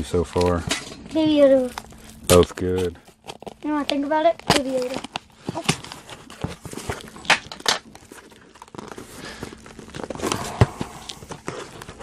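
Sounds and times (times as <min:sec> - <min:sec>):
packing paper crinkling and tearing: 0:01.5 - 0:12.0.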